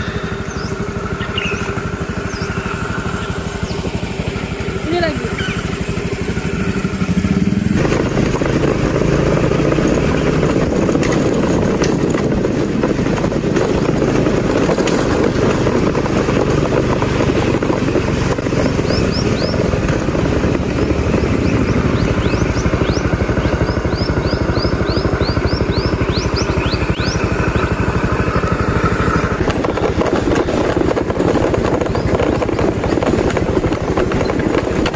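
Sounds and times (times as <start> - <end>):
motorcycle engine under load: 0.0 - 34.9.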